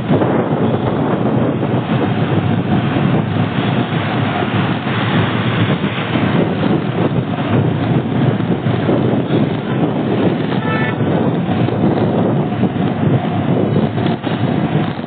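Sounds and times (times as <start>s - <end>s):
vehicle and road rumble: 0.0s - 15.0s
wind buffeting microphone: 0.0s - 15.0s.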